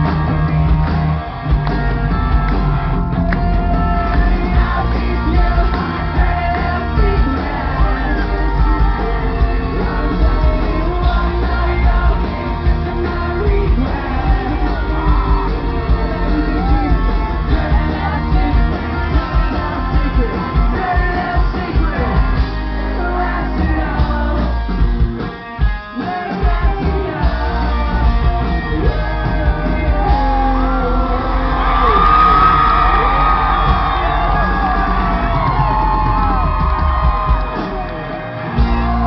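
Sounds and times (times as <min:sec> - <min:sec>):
electric guitars: 0:00.0 - 0:39.0
lead singer: 0:00.0 - 0:39.0
live rock band: 0:00.0 - 0:39.0.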